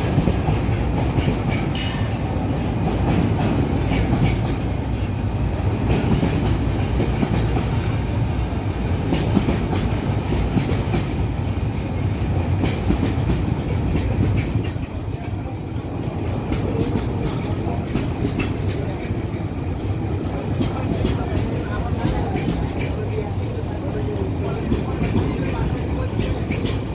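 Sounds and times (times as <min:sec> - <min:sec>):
train rumbling on track: 0:00.0 - 0:26.9.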